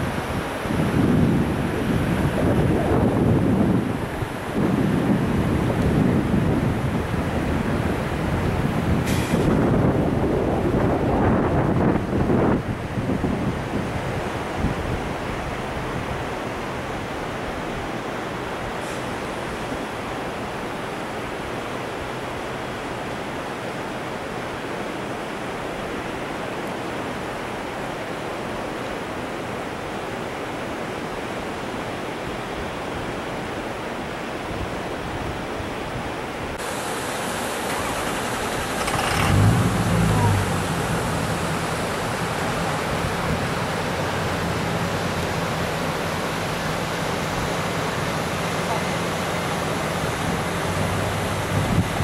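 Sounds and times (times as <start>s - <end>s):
floodwater rushing: 0.0s - 52.0s.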